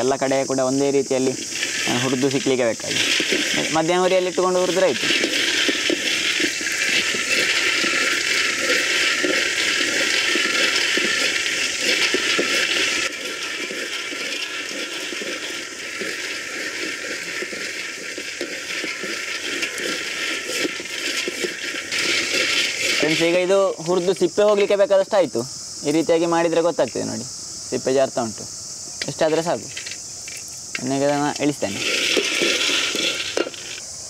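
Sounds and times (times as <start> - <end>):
peanuts rattling in a steel pan: 0.0 - 27.2, 29.0 - 34.0
steady hiss: 0.0 - 34.0.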